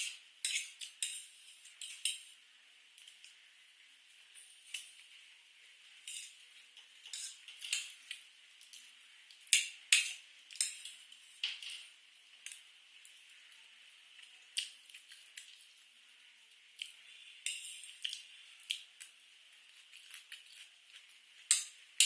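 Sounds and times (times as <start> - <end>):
close-miked eating sounds: 0.0 - 22.0.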